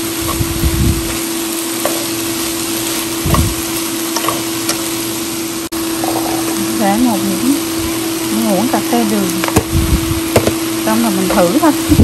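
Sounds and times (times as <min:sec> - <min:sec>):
steady hum: 0:00.0 - 0:12.0
vegetables sizzling in a pan: 0:00.0 - 0:12.0.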